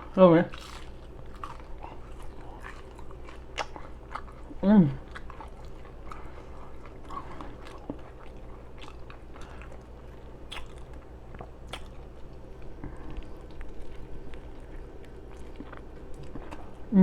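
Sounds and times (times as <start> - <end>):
wet chewing and smacking: 0.0 - 16.9.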